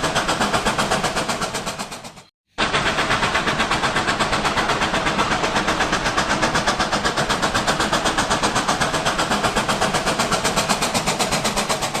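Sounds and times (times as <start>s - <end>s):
model train clattering on track: 0.0s - 12.0s.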